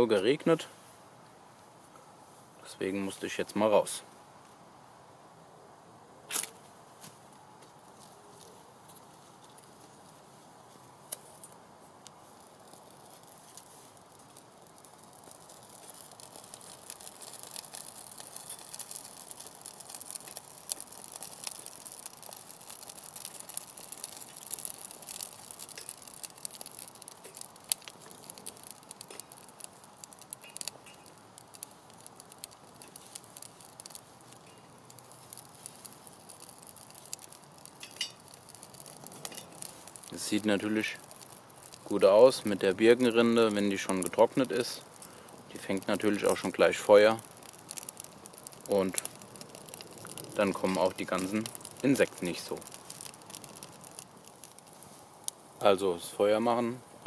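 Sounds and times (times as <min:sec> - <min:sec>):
fire crackling and popping: 0:06.2 - 0:57.0
fire hiss: 0:06.2 - 0:57.0.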